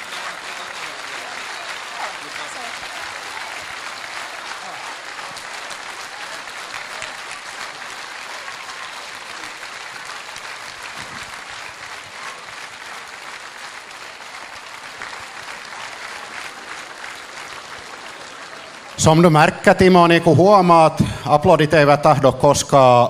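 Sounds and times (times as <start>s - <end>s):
crowd applauding: 0.0s - 23.0s.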